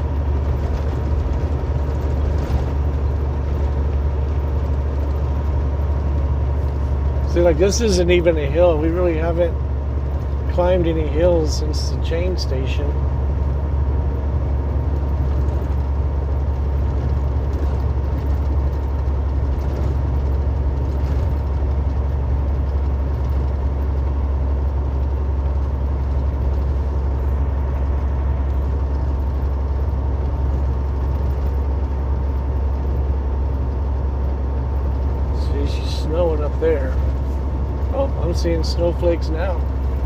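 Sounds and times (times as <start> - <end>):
car road and engine rumble: 0.0 - 40.0.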